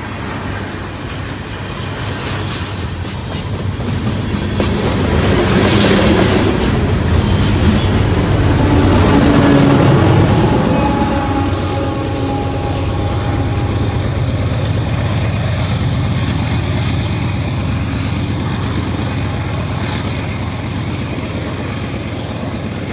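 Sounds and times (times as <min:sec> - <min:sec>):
locomotive engine drone: 0:00.0 - 0:22.9
rolling train wheels: 0:00.0 - 0:22.9.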